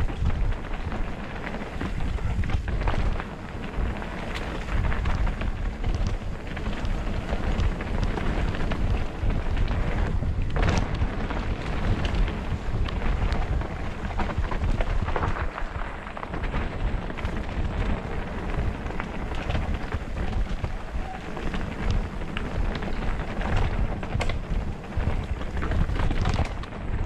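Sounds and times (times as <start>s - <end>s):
mountain bike rumble and rattle: 0.0s - 27.0s
wind buffeting microphone: 0.0s - 27.0s.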